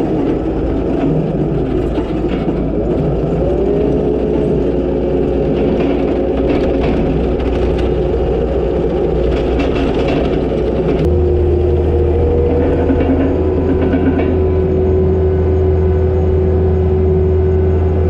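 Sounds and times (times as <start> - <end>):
deeper hum: 0.0 - 18.0
diesel engine running: 0.0 - 18.0
steady whine: 0.0 - 18.0.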